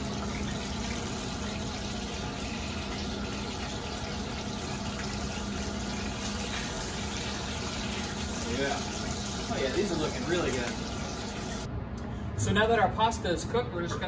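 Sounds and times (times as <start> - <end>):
chicken frying in hot oil: 0.0 - 11.7
pasta water boiling: 0.0 - 11.7.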